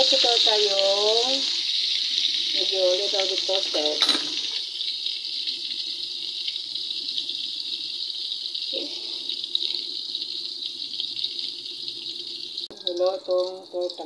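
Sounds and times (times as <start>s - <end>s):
eggplant sizzling in oil: 0.0s - 14.0s.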